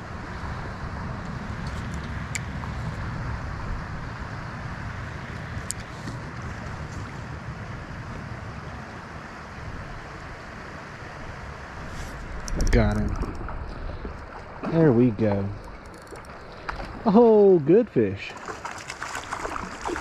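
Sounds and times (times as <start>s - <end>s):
wind rumble on microphone: 0.0s - 17.1s
flowing creek water: 0.0s - 20.0s.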